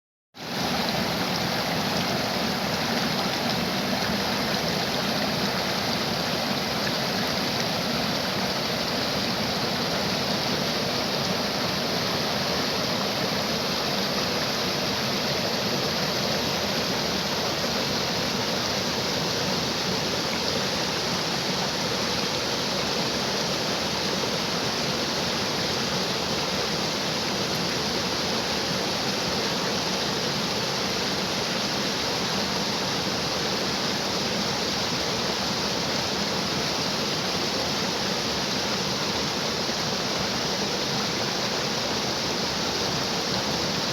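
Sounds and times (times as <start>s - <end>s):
stream water flowing: 0.4s - 43.9s.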